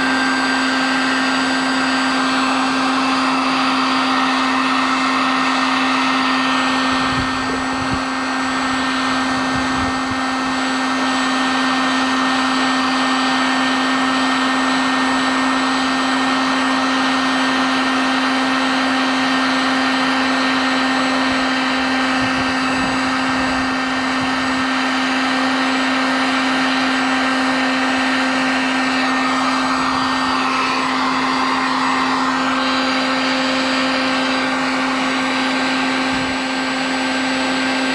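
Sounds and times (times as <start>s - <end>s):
heat gun fan hissing: 0.0s - 37.9s.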